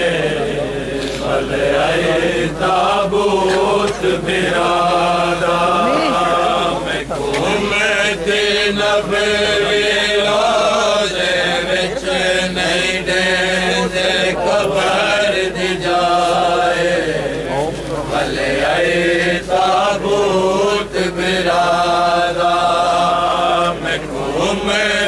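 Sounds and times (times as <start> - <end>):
men chanting: 0.0 - 25.0.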